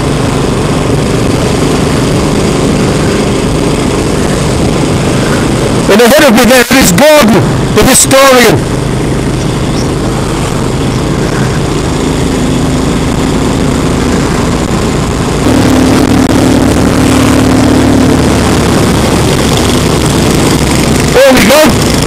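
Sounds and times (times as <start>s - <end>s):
motorcycle engine running: 0.0s - 22.0s
road noise: 0.0s - 22.0s
wind: 0.0s - 22.0s.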